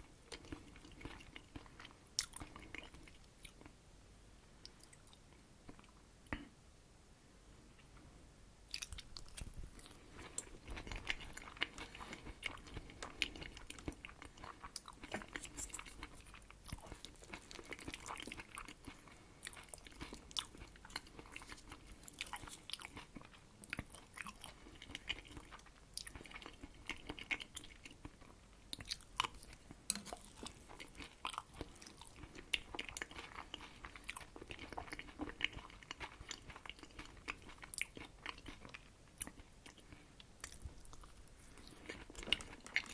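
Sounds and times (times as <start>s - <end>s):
close chewing sounds: 0.0s - 3.8s, 8.7s - 42.9s.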